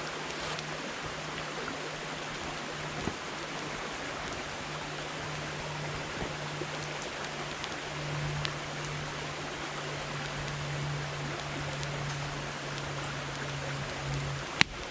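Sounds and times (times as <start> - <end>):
campfire hissing: 0.0 - 14.9
fire crackles and pops: 0.0 - 14.9.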